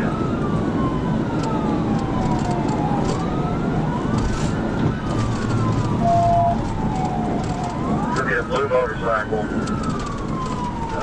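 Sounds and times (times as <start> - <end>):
police siren wailing: 0.0 - 11.0
road and engine noise: 0.0 - 11.0.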